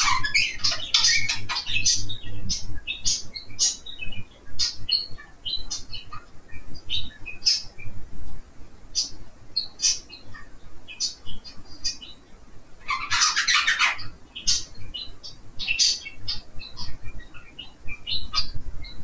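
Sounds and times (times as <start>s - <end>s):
budgerigars chirping: 0.0s - 7.8s, 8.9s - 12.2s, 12.8s - 19.0s.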